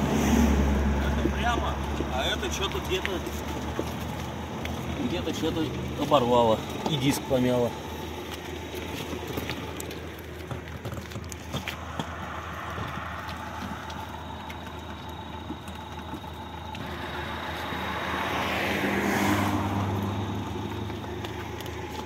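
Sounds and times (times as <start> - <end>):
low engine hum: 0.0 - 22.0
vehicle passing on highway: 0.0 - 22.0.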